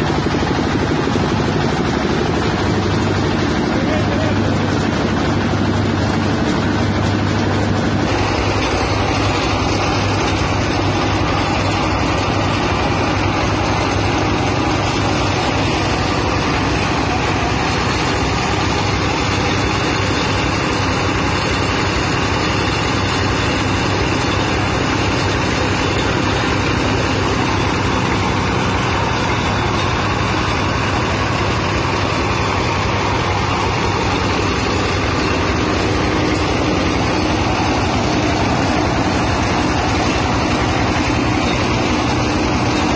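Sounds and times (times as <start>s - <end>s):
engine humming: 0.0s - 42.9s
grinder rushing: 0.0s - 42.9s.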